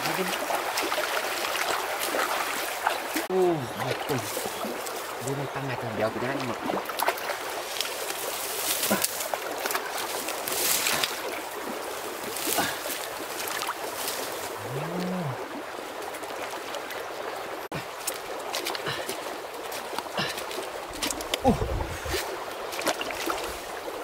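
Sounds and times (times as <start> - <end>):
water sloshing around wading legs: 0.0 - 24.0.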